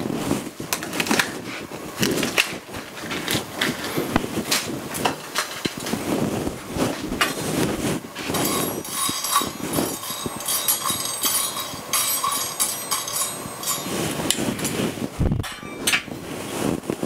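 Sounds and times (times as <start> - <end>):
rustling and handling noises: 0.1 - 17.0.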